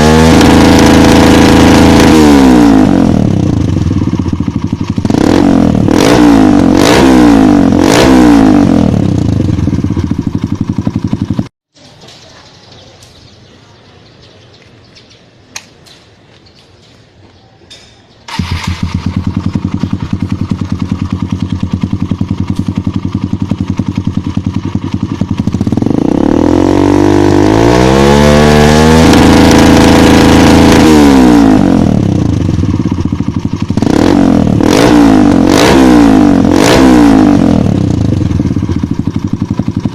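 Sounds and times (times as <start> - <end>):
dirt bike engine revving: 0.0 - 11.5, 18.3 - 39.9.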